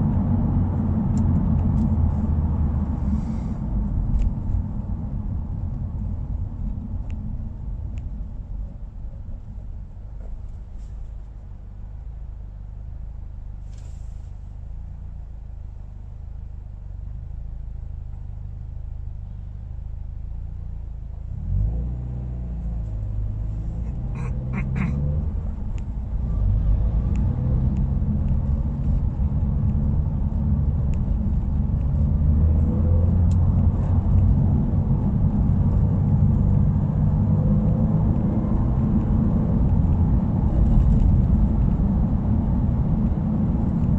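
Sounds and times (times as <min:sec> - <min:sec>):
car exhaust rumble: 0:00.0 - 0:43.9.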